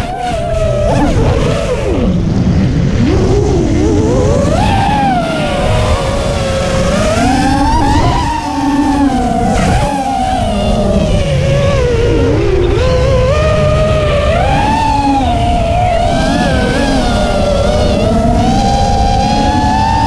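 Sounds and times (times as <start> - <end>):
drone motors whining: 0.0 - 20.0
wind buffeting microphone: 0.0 - 20.0.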